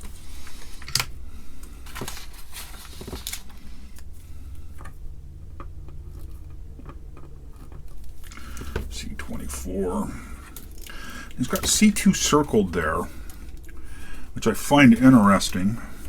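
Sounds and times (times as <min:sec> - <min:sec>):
handling clicks and rustles: 0:00.0 - 0:16.0
steady low hum: 0:00.0 - 0:16.0.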